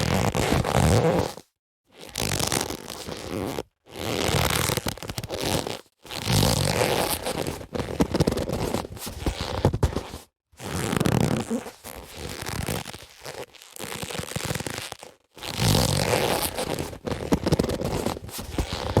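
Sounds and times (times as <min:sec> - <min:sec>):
boxing gloves rubbing and rustling: 0:00.0 - 0:01.4, 0:02.0 - 0:19.0.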